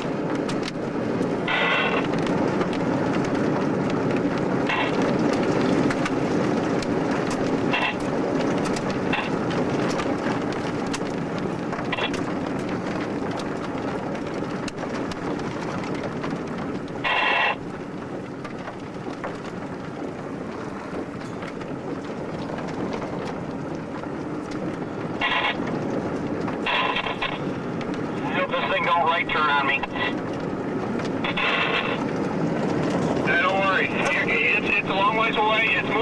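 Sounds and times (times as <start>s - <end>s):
road and wind noise in vehicle: 0.0s - 36.0s.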